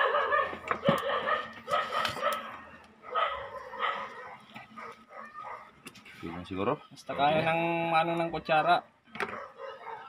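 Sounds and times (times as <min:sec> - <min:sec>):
dog barking: 0:00.0 - 0:07.4, 0:09.2 - 0:10.0.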